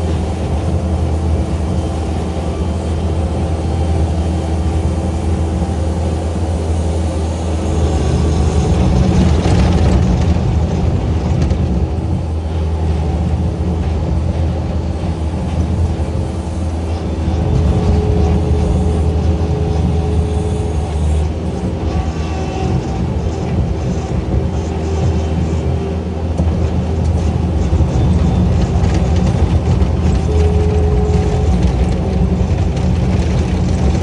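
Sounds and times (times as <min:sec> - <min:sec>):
engine humming: 0:00.0 - 0:34.0.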